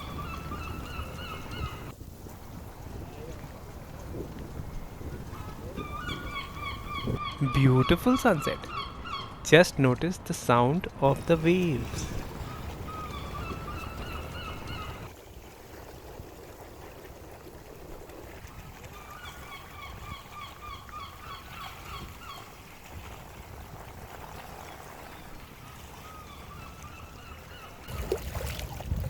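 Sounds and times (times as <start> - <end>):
lake waves lapping: 0.0 - 29.0
wind: 0.0 - 29.0.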